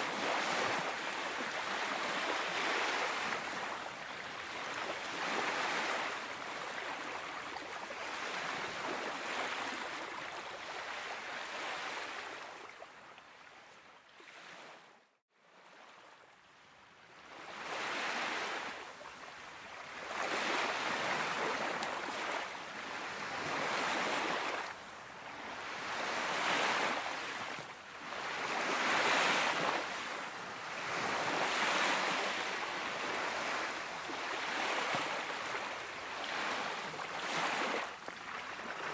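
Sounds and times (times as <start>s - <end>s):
small waves washing onto beach: 0.0s - 38.9s.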